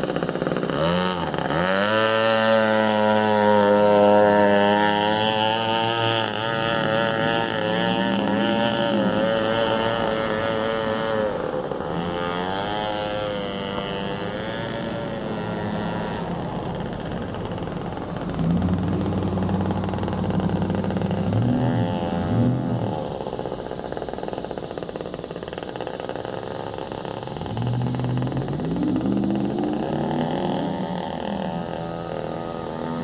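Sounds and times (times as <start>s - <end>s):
two-stroke boat engine: 0.0s - 33.0s.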